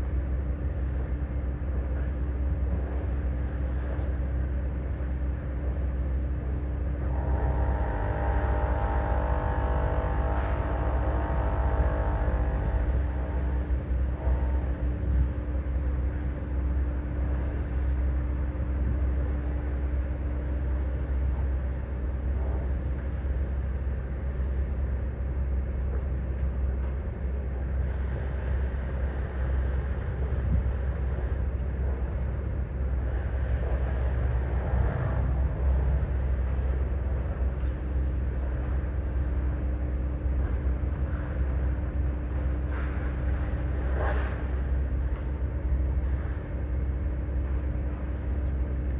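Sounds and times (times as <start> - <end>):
diesel machinery drone: 0.0 - 48.9.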